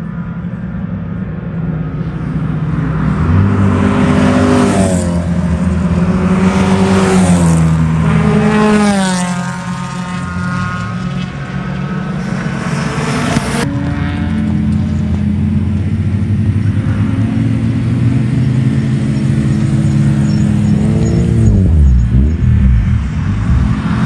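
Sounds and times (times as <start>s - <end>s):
racing car engines revving: 0.0s - 24.0s.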